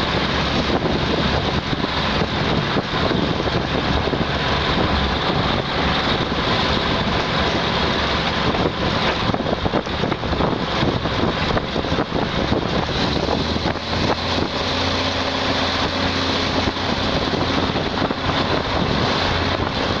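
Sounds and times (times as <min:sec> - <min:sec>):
diesel engine drone: 0:00.0 - 0:20.0
train running noise: 0:00.0 - 0:20.0
wind on microphone: 0:00.0 - 0:20.0.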